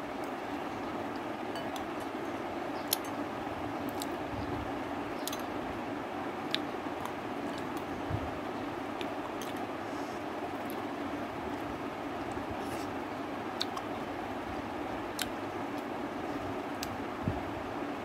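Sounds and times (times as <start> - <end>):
steady room hum: 0.0 - 18.0.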